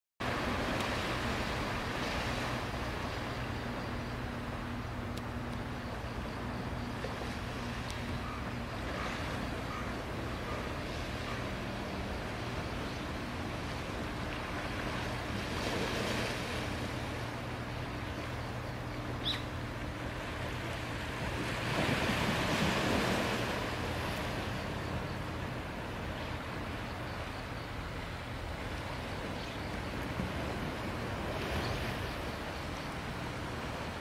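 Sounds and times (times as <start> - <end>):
small waves washing on shore: 0.2 - 34.0.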